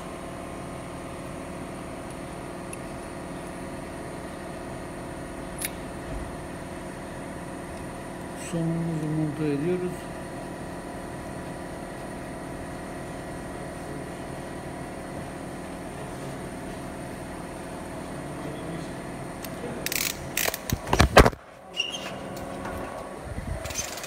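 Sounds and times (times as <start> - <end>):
workshop machinery hum: 0.0 - 24.0.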